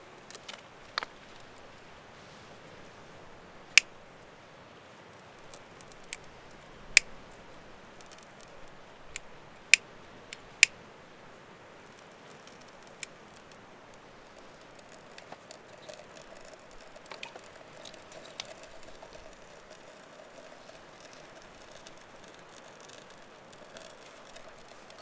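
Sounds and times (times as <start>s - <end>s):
small fire crackling: 0.0s - 25.0s.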